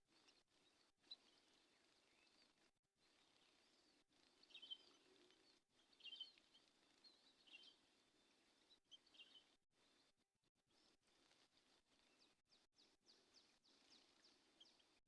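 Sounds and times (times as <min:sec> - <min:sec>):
faint bird chirps: 0:00.1 - 0:10.1, 0:12.0 - 0:15.0.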